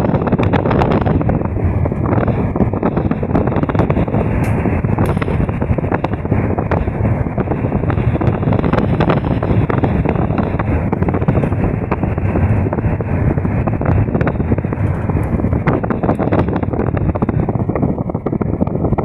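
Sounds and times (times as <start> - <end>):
bus engine and road noise: 0.0 - 19.0
small rattles and clicks: 0.0 - 19.0.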